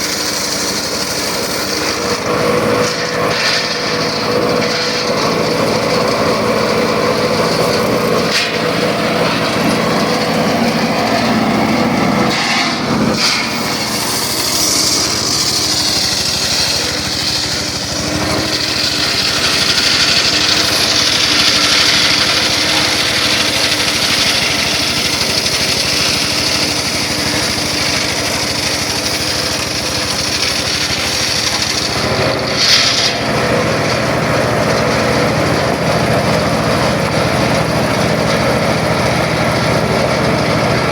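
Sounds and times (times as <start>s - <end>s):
circular saw cutting wood: 0.0s - 40.9s.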